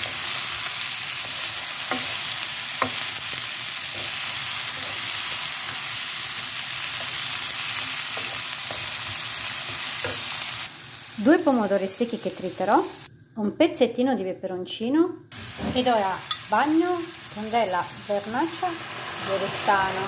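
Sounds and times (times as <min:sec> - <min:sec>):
fish sizzling in oil: 0:00.0 - 0:13.1, 0:15.3 - 0:20.0.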